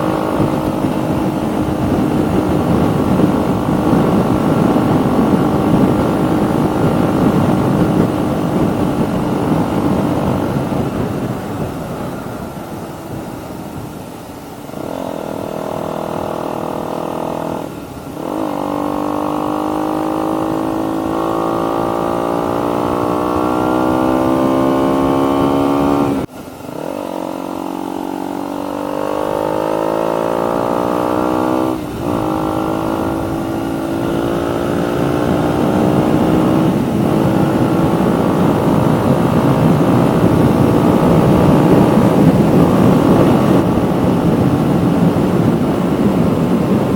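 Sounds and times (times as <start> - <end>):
motorcycle engine accelerating: 0.0 - 46.9
rushing wind: 0.0 - 46.9.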